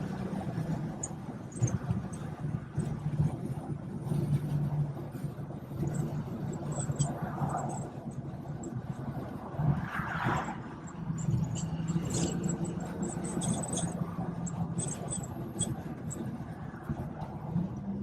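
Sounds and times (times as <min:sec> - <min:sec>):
car engine at highway speed: 0:00.0 - 0:18.0
road and tyre rumble: 0:00.0 - 0:18.0.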